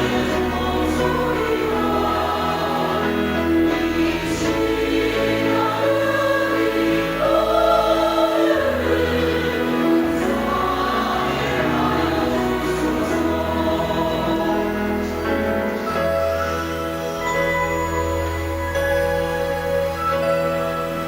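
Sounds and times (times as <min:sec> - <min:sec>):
choir singing a hymn: 0:00.0 - 0:21.0.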